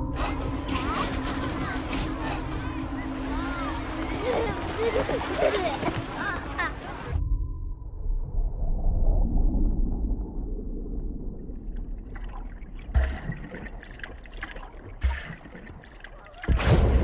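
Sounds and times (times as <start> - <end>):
underwater low rumble: 0.0 - 17.0
faint bubbling and splashing: 0.1 - 7.2, 8.8 - 17.0.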